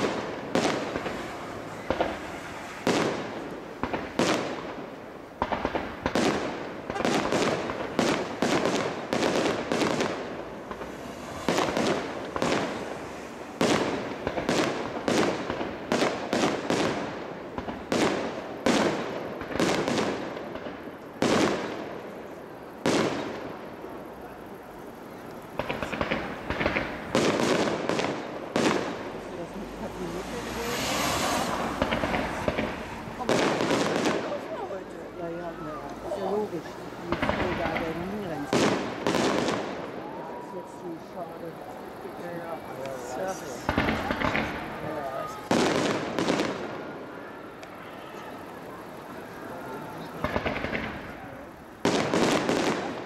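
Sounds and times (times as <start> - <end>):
firework crackle: 0.0 - 53.0.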